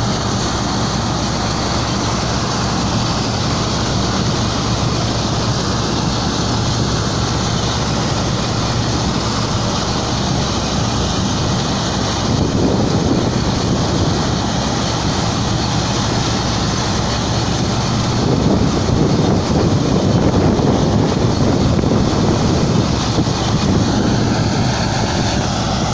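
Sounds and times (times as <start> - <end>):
combine harvester drone: 0.0 - 25.9.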